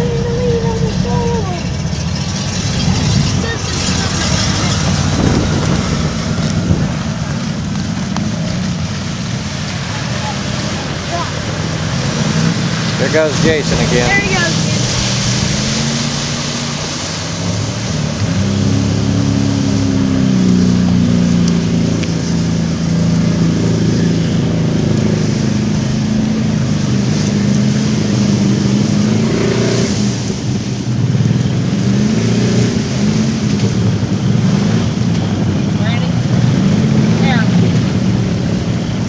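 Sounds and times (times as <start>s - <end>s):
rushing noise: 0.0s - 39.0s
truck engine revving: 0.0s - 39.0s.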